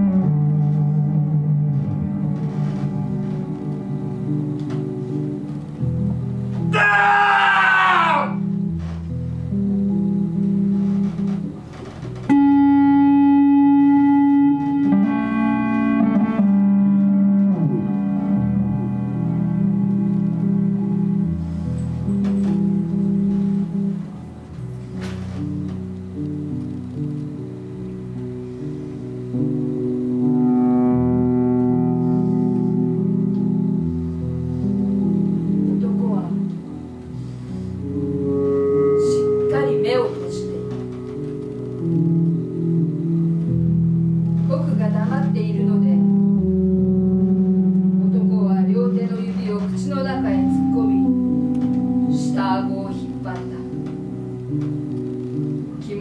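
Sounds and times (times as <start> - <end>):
bass playing sustained low notes: 0.0 - 6.8, 8.3 - 56.0.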